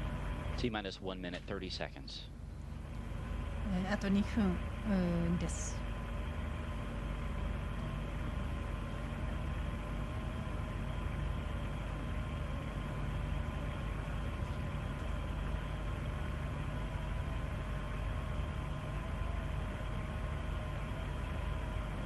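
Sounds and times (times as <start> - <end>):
low hum and rumble: 0.0 - 22.0.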